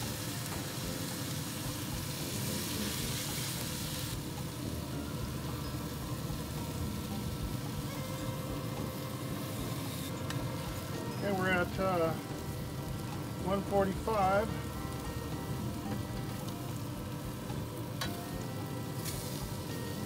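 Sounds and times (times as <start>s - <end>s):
steaks sizzling on a grill: 0.0s - 20.0s.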